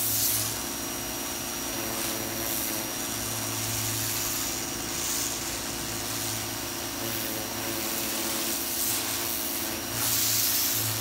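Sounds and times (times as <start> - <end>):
motor and pump humming: 0.0 - 11.0
pressure washer water jet hissing: 0.0 - 11.0.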